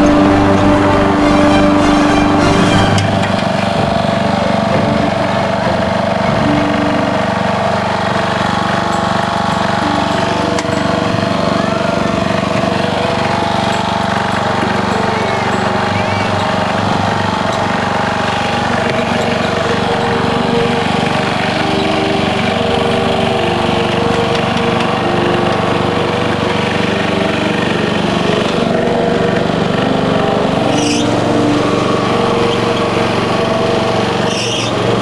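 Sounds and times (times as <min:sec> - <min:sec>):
riding lawn mower engine running: 0:00.0 - 0:35.0.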